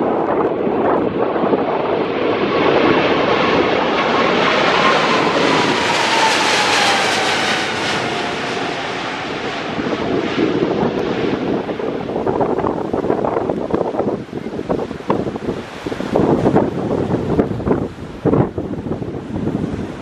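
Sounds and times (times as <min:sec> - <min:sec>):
jet engine whine falling in pitch: 0:00.0 - 0:20.0
loud jet roar: 0:00.0 - 0:20.0.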